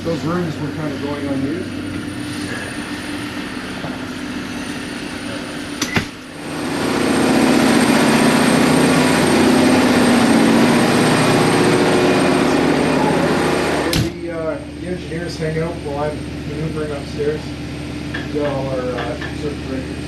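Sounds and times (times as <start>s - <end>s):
ship machinery hum: 0.0s - 20.0s.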